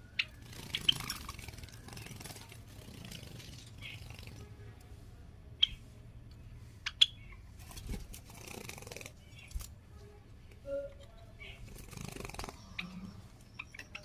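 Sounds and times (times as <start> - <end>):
sparrows clicking: 0.0 - 9.8, 10.4 - 14.0.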